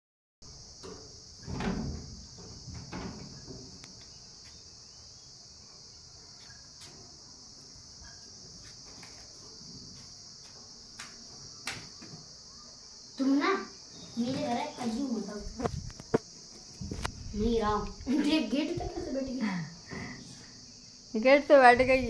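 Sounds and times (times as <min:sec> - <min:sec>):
high-pitched insect chorus: 0:00.4 - 0:22.0.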